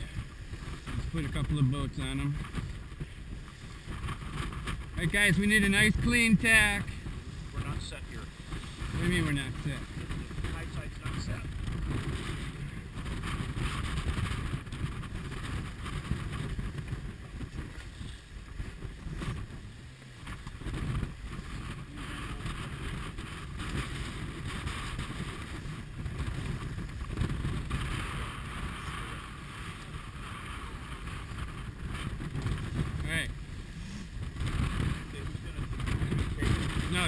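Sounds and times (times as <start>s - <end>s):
water rushing along hull: 0.0s - 37.0s
wind buffeting microphone: 0.0s - 37.0s.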